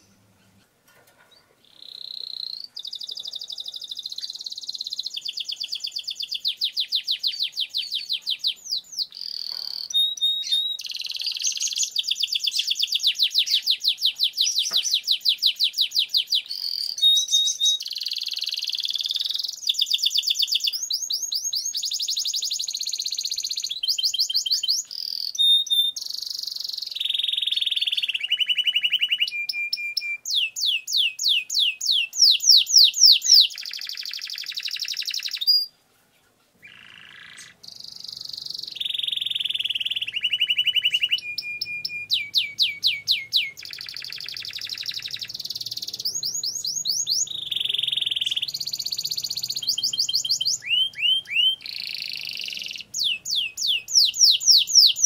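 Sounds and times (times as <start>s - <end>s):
canary singing rolling trills: 0.0s - 35.8s, 36.4s - 55.0s.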